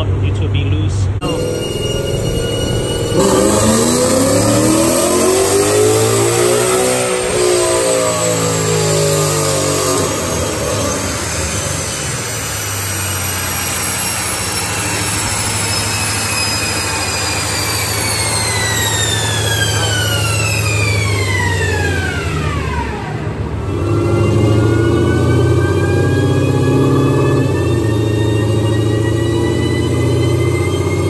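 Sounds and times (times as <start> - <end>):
car engine revving: 0.0 - 31.0
high whine dropping in pitch: 0.7 - 31.0
low drone of rollers: 1.2 - 31.0.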